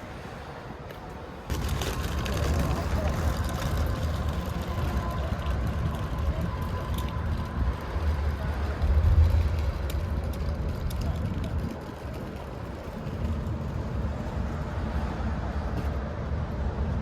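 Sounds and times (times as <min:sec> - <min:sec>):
low rumble: 0:01.5 - 0:17.0.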